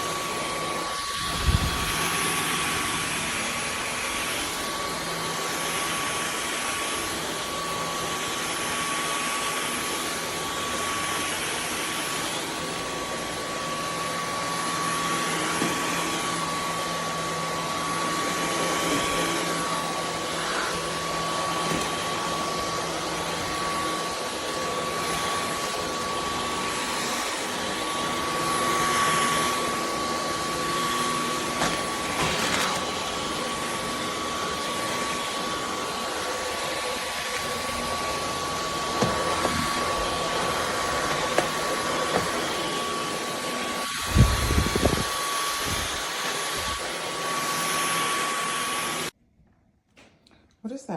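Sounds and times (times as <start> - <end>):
vacuum cleaner whine and airflow: 0.0 - 49.2.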